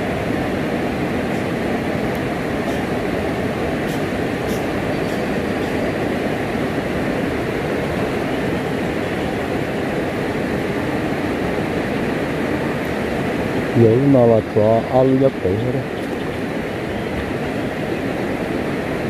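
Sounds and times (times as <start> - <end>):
rushing flowing water: 0.0 - 19.0.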